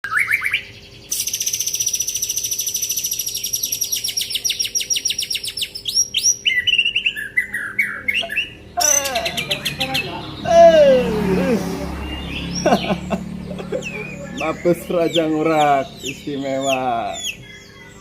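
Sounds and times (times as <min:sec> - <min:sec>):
songbird trilling and whistling: 0:00.0 - 0:11.1, 0:12.0 - 0:18.0.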